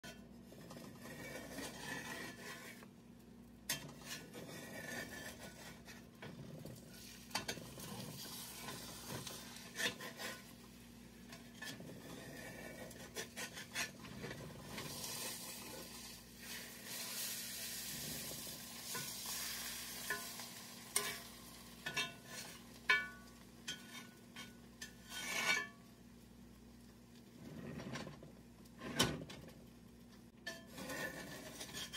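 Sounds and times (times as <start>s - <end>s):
metal spatula scraping skillet: 0.0s - 2.9s, 3.7s - 26.0s, 30.4s - 31.9s
eggs sizzling in pan: 0.1s - 31.9s.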